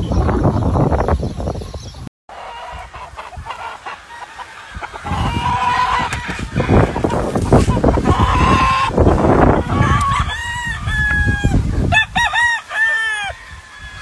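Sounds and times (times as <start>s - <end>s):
chickens clucking: 2.3s - 14.0s
rooster crowing: 2.3s - 14.0s.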